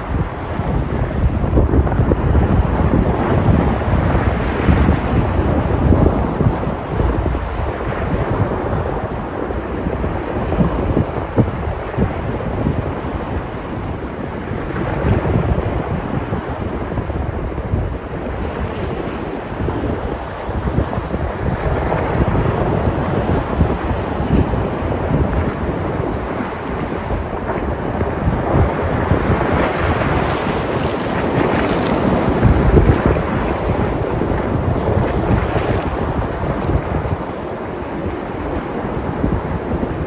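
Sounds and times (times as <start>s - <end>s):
sea waves breaking on shore: 0.0s - 40.0s
wind rumbling on microphone: 0.0s - 40.0s.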